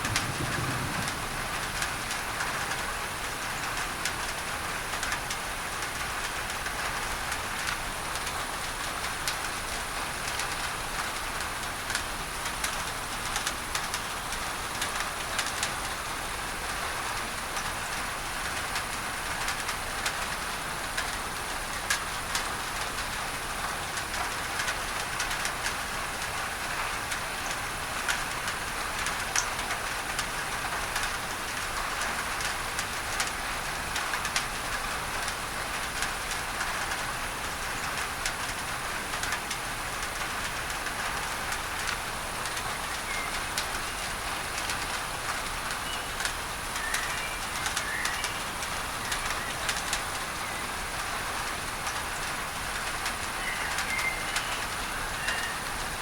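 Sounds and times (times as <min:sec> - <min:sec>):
rain ticking on a tin roof: 0:00.0 - 0:56.0.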